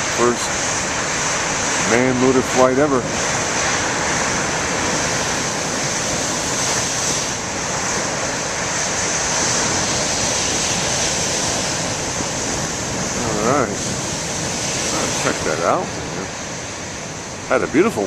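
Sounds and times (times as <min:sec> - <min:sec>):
storm waves breaking on rocks: 0:00.0 - 0:18.0
wind noise on microphone: 0:00.0 - 0:18.0.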